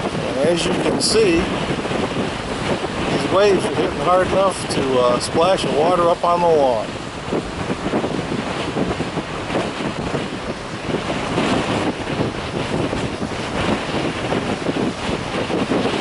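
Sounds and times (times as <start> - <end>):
waves breaking on shore: 0.0 - 16.0
wind buffeting microphone: 0.0 - 16.0.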